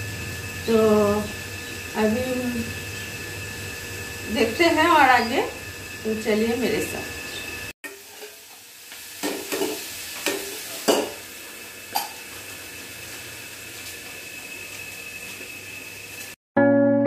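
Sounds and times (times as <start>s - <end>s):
sizzling hiss: 0.0s - 16.4s.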